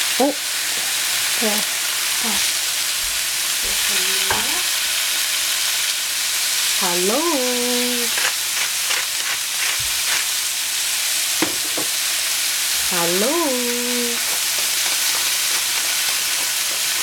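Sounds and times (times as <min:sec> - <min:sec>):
greens sizzling in a frying pan: 0:00.0 - 0:17.0.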